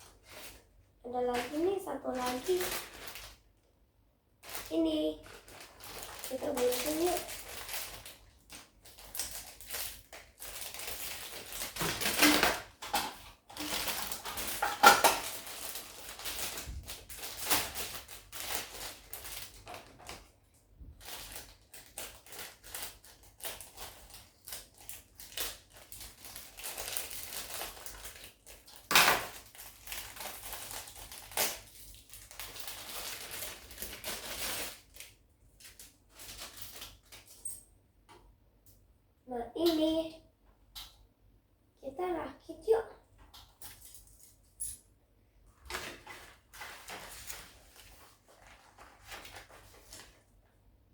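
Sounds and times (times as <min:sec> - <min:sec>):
plastic packaging crinkling: 0:00.0 - 0:03.7, 0:04.4 - 0:37.6, 0:45.6 - 0:50.5.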